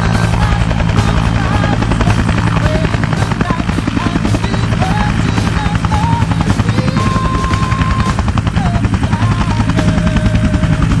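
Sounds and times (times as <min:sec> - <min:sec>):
helicopter rotor beating: 0:00.0 - 0:11.0
turbine engine drone: 0:00.0 - 0:11.0.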